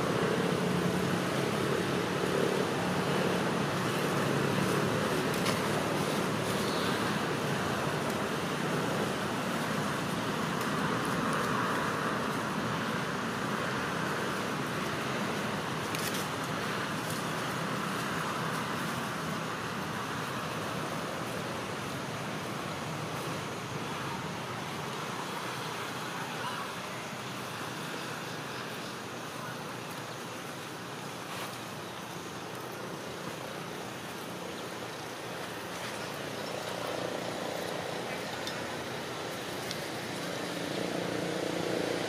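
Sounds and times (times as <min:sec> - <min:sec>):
rushing outdoor hiss: 0:00.0 - 0:42.0.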